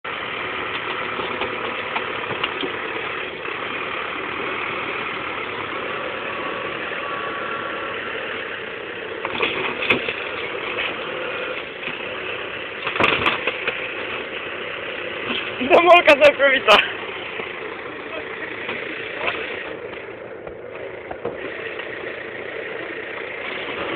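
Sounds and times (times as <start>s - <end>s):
diesel tractor engine running: 0.0s - 23.9s.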